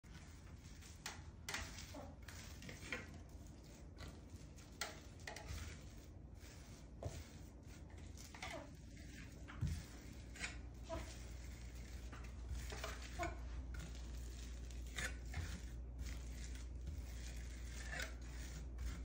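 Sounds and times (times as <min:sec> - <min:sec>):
soft scrapes of plaster on wall: 0:00.0 - 0:19.0.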